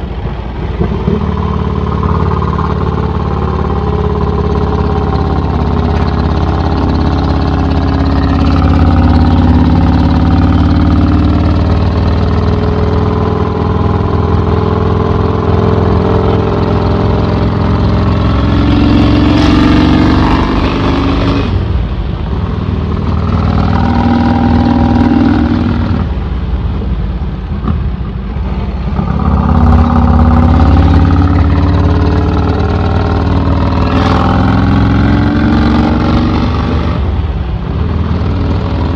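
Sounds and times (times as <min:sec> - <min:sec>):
motorcycle engine revving: 0:00.8 - 0:26.2, 0:28.8 - 0:38.9.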